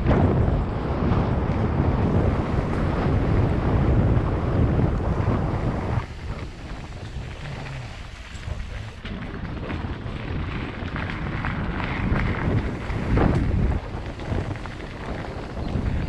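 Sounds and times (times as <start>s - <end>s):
wind rumble on microphone: 0.0s - 16.0s
tyres crunching on gravel: 1.1s - 16.0s.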